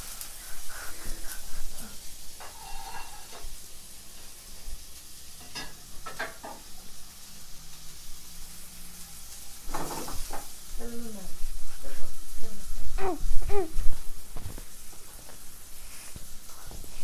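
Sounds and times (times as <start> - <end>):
steaks sizzling in a pan: 0.0 - 17.0.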